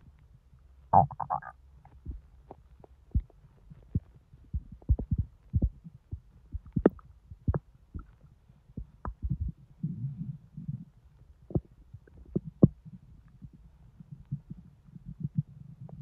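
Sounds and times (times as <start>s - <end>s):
stomach gurgling and rumbling: 0.0s - 16.0s.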